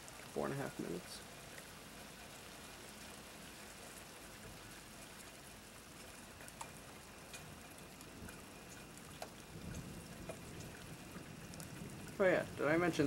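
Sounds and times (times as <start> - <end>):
light drip ticks: 0.0 - 13.0
steady rain hiss: 0.0 - 13.0.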